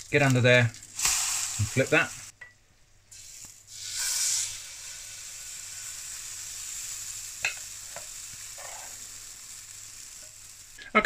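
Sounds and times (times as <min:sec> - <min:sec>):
batter sizzling in a frying pan: 0:00.0 - 0:02.3, 0:03.1 - 0:11.0.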